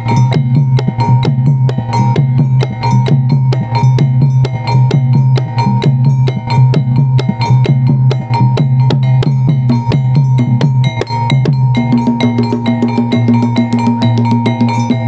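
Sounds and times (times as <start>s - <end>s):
drum beat: 0.0s - 15.0s
gamelan playing: 0.0s - 15.0s.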